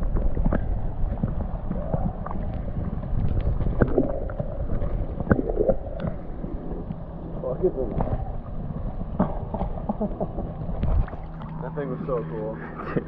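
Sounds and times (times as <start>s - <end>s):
small underwater clicks and knocks: 0.0s - 7.2s, 7.8s - 11.8s
underwater river current rumble: 0.0s - 13.0s.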